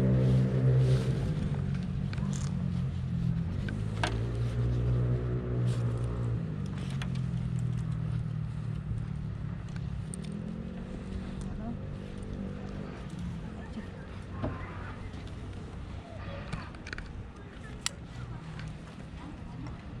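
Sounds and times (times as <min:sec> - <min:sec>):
vehicle engine running at low revs: 0:00.0 - 0:20.0.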